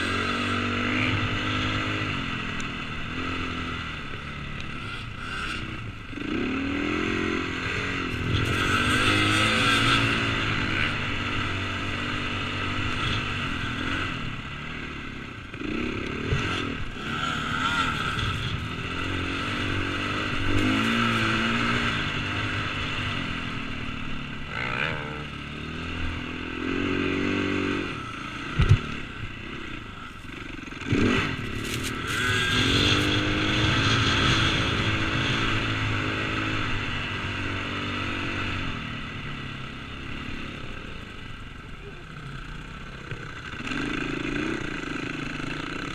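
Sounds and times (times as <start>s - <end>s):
motocross engine revving: 0.0s - 45.9s.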